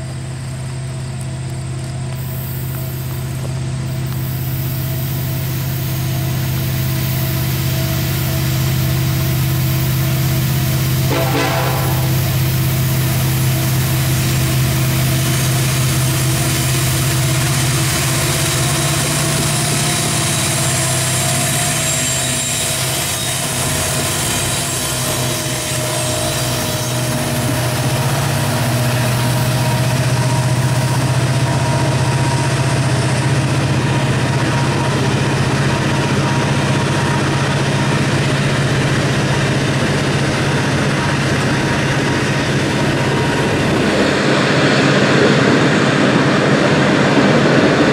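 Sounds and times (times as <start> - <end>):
diesel locomotive droning: 0.0 - 47.9
steel wheels rumbling on rail: 0.0 - 47.9.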